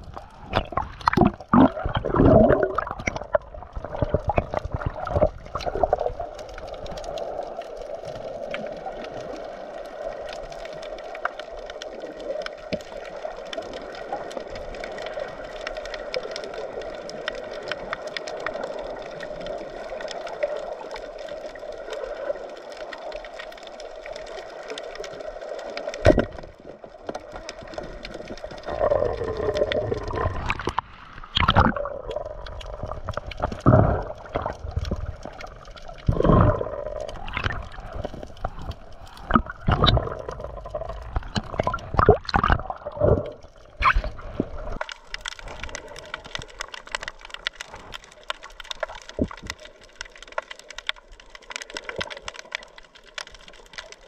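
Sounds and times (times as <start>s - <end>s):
underwater crackling hiss: 0.0s - 54.0s
water splashing and bubbling: 0.0s - 54.0s.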